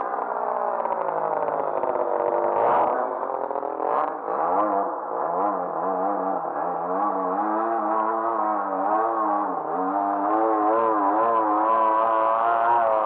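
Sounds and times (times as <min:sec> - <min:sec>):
model plane engine: 0:00.0 - 0:13.0.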